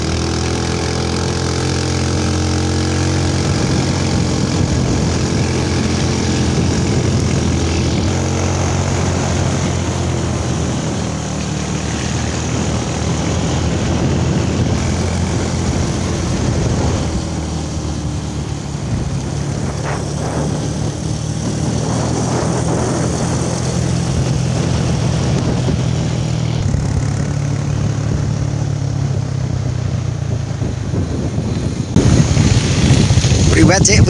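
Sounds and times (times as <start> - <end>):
motorcycle engine running: 0.0 - 34.0
wind rush over microphone: 1.8 - 34.0.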